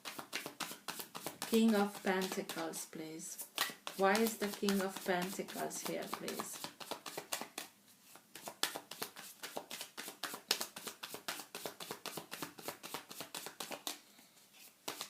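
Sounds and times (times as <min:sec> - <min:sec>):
cards being shuffled: 0:00.0 - 0:02.8, 0:03.4 - 0:14.0, 0:14.6 - 0:15.0.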